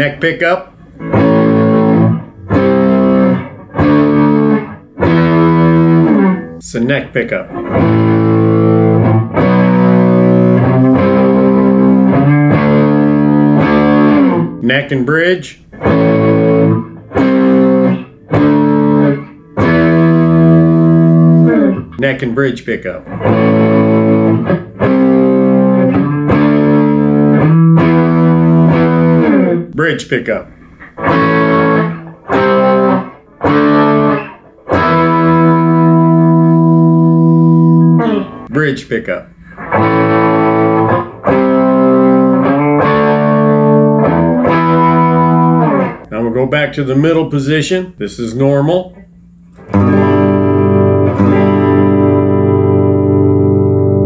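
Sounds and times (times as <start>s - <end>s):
electric guitar chords: 0.0s - 47.5s, 48.9s - 54.0s.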